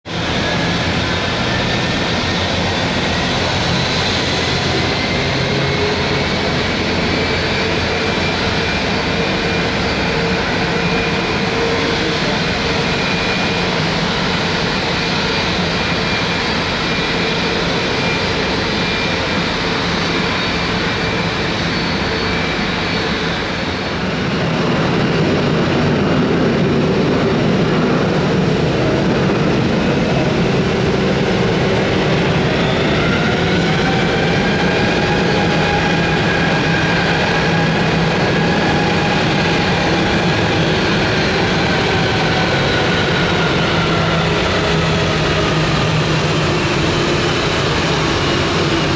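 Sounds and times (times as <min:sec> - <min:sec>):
jet engines whining: 0:00.1 - 0:48.9
jet passing by: 0:00.1 - 0:48.9.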